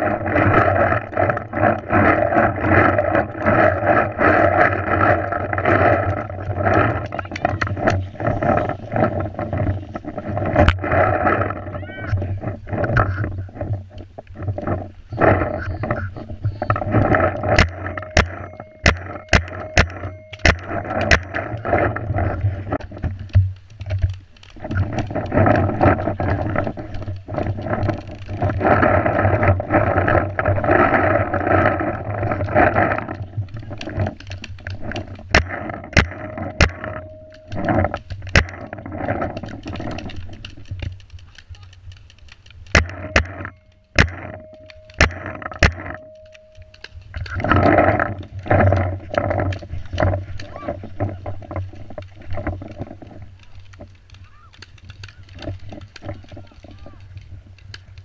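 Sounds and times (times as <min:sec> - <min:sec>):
wind on camera: 0:00.0 - 0:58.0.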